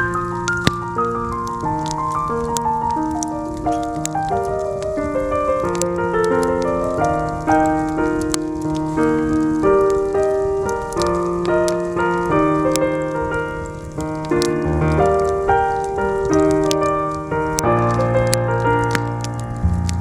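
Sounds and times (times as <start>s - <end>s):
campfire popping and crackling: 0.0s - 20.0s
soft jazz piano music: 0.0s - 20.0s.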